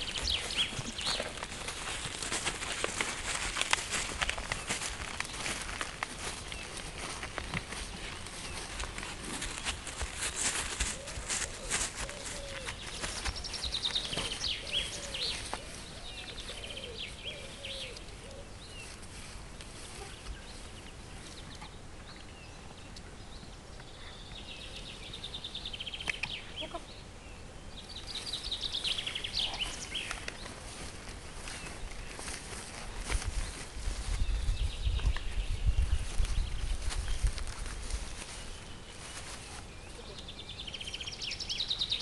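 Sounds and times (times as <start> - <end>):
small birds chirping trills: 0.0 - 42.0
lower rising and falling bird calls: 3.9 - 19.0, 19.8 - 42.0.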